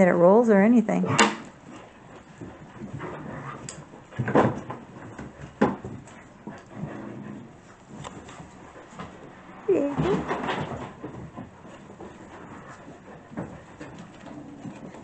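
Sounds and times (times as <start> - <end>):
puppies scuffling: 0.0 - 15.0.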